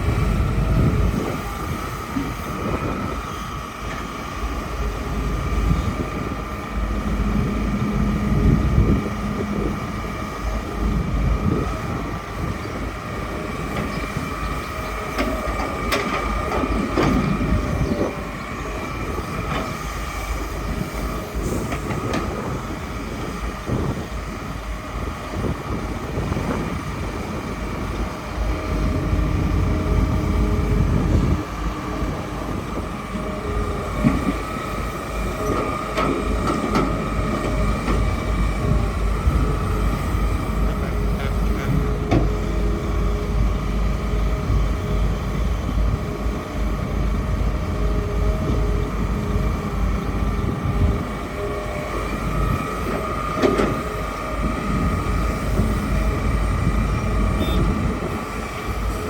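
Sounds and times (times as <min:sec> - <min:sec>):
excavator engine rumble: 0:00.0 - 0:59.0
hydraulic whine: 0:00.0 - 0:59.0.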